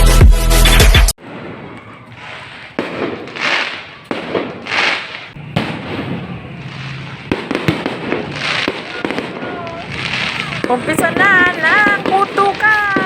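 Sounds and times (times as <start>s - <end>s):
fireworks bangs: 1.2s - 13.0s
fireworks hissing: 2.1s - 13.0s.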